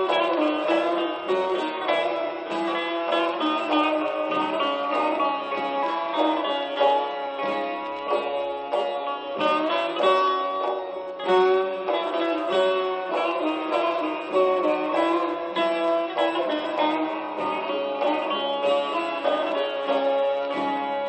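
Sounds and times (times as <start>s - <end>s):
plucked string folk music: 0.0s - 21.0s.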